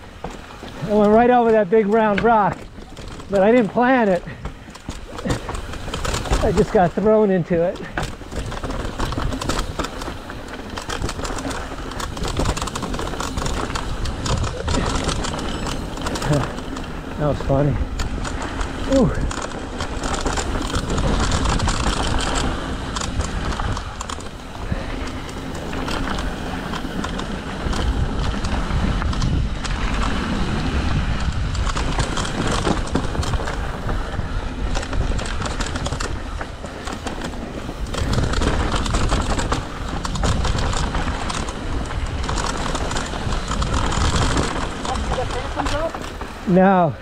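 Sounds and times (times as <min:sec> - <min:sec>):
bike rattling and clicking: 0:00.0 - 0:47.0
tyres crunching over dirt: 0:00.0 - 0:47.0
wind rumbling on microphone: 0:00.0 - 0:47.0.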